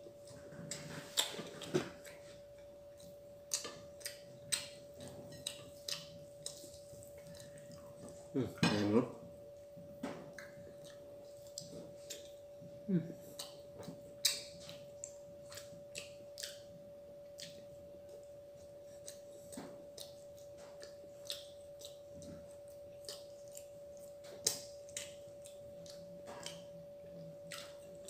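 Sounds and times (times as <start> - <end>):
person chewing crisp food: 0.0 - 9.0, 10.3 - 28.0
faint steady whine: 0.0 - 28.0.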